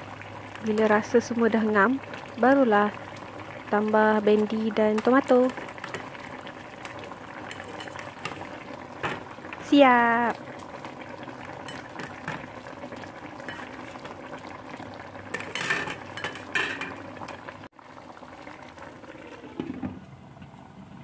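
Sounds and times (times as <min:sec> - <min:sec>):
curry bubbling in a wok: 0:00.0 - 0:21.0.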